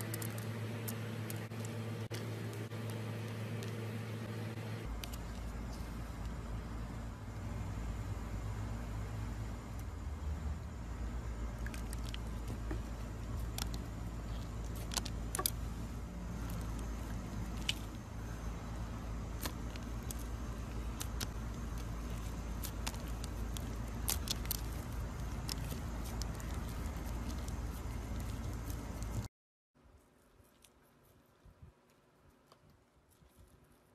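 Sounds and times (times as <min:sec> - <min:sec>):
low background rumble: 0:00.0 - 0:33.9.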